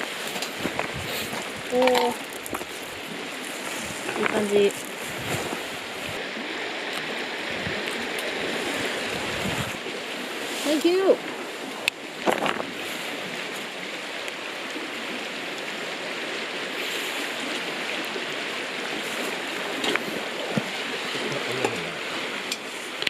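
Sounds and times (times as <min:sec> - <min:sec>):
river water flowing: 0:00.0 - 0:23.0.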